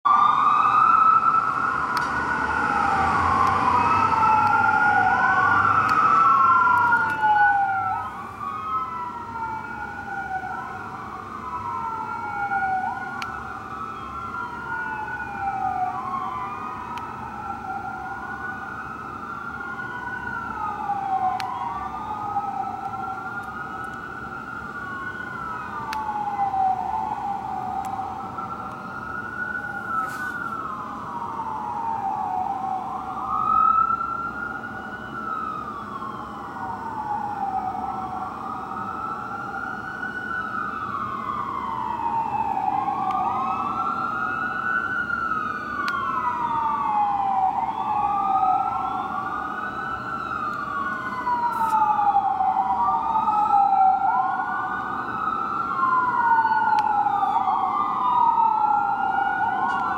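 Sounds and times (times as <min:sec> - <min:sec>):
fire truck sirens wailing: 0:00.0 - 0:59.9.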